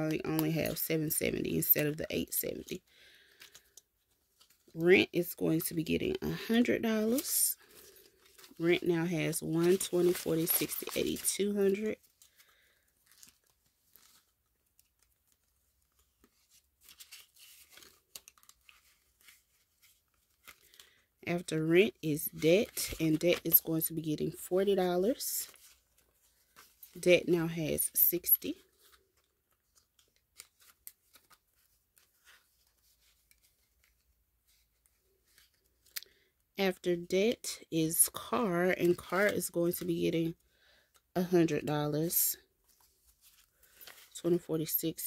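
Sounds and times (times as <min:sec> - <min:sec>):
paper banknotes rustling: 0:02.7 - 0:35.9, 0:42.0 - 0:45.0.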